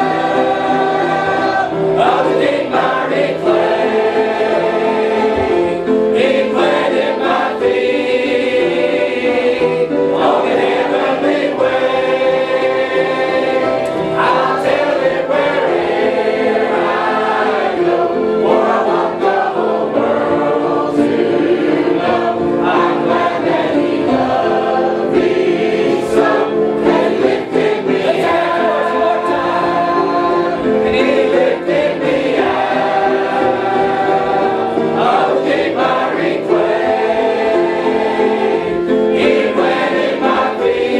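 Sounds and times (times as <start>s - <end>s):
choir singing gospel: 0.0s - 40.9s.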